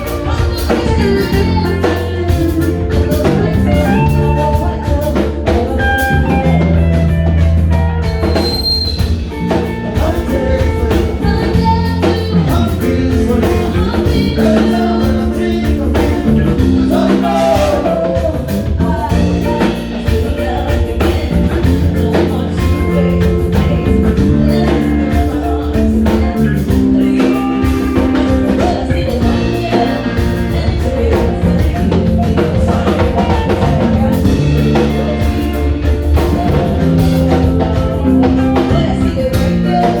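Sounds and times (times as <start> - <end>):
bass guitar: 0.0 - 40.0
drum kit beat: 0.0 - 40.0
electric guitar: 0.0 - 40.0
person singing: 0.0 - 40.0.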